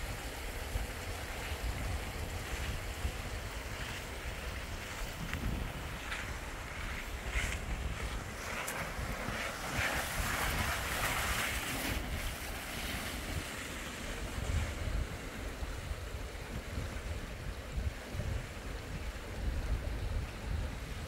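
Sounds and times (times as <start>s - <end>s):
wind and rain hiss: 0.0s - 21.0s
wind buffeting microphone: 0.0s - 21.0s.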